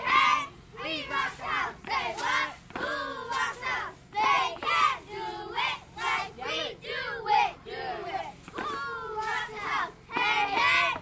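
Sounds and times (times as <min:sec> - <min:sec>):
girls chanting a cheer: 0:00.0 - 0:11.0.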